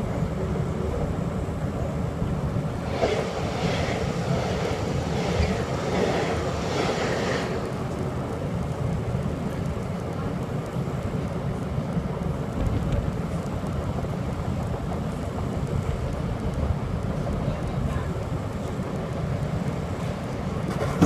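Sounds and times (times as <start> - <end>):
passing train whooshing: 0.0 - 21.0
train rumbling inside carriage: 0.0 - 21.0.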